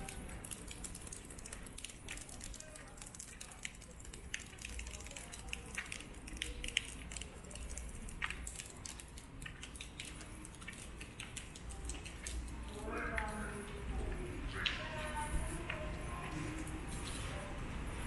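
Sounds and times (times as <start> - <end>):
raindrops ticking: 0.0 - 17.6.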